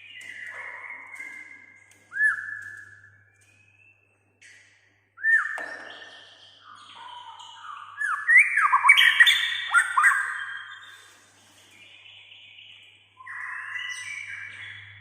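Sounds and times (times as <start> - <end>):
bird whistling song: 0.0 - 4.2, 5.2 - 11.1, 11.8 - 15.0.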